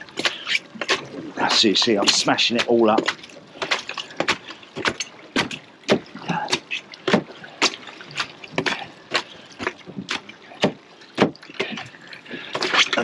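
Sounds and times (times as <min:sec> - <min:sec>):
wet squishing: 0:00.0 - 0:13.0.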